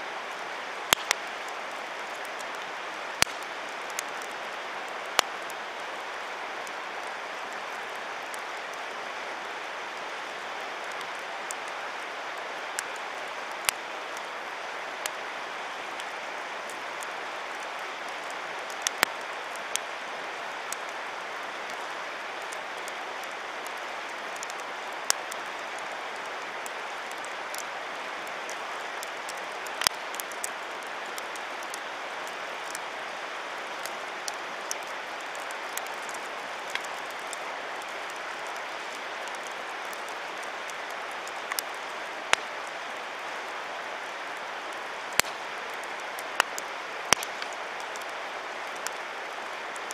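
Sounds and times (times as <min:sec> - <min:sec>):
steady rushing hiss: 0:00.0 - 0:49.9
campfire crackling and popping: 0:00.1 - 0:49.9.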